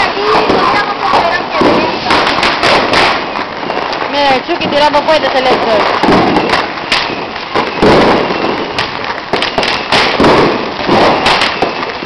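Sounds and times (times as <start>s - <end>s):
firecrackers popping: 0.0s - 12.0s
loud bangs: 0.0s - 12.0s.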